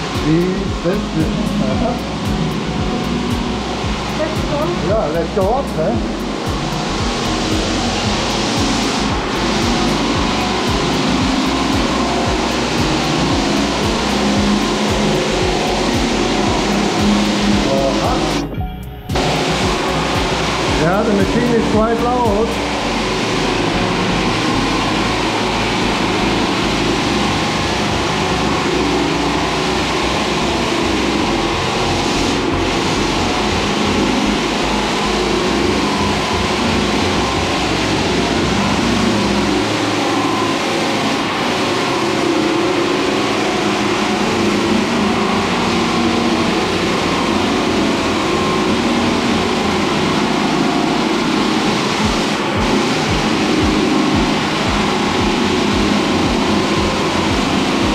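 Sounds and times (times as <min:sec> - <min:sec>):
floor sanding machine running: 0:00.0 - 0:57.9.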